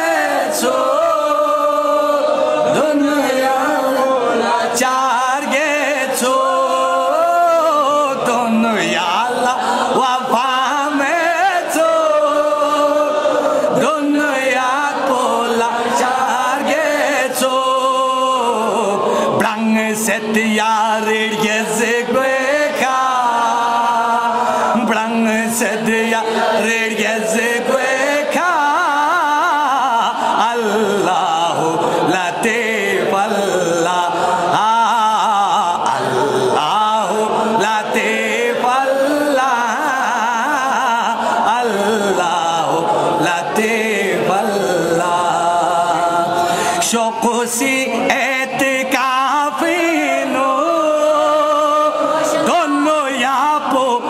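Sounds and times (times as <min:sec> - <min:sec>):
man chanting devotional poem: 0:00.0 - 0:54.0.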